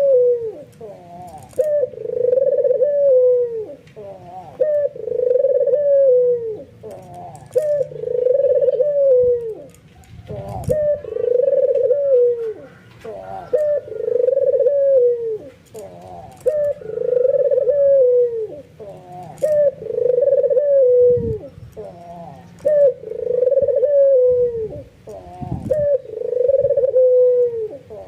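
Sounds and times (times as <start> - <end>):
dove cooing: 0.0 - 28.0.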